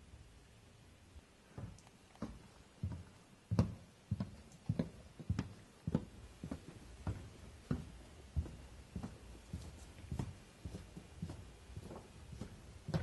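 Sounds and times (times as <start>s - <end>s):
footsteps on hard floor: 1.5s - 13.0s.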